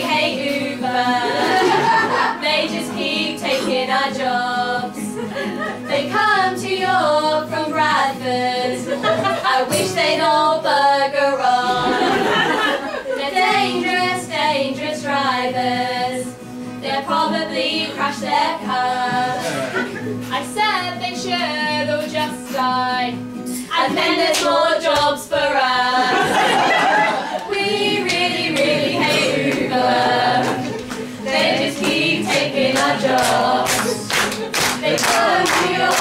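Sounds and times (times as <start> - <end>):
acoustic guitar chords: 0.0 - 36.0
women singing together: 0.0 - 36.0.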